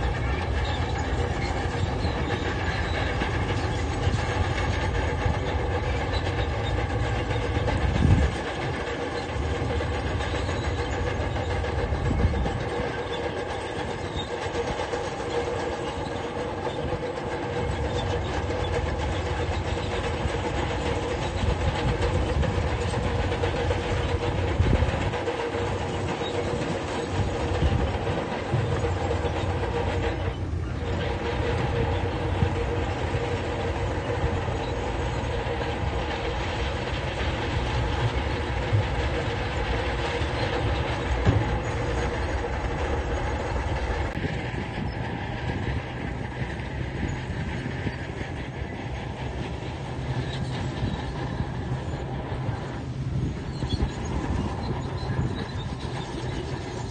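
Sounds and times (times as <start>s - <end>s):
crawler tracks clanking: 0.0s - 56.9s
diesel engine rumble: 0.0s - 56.9s.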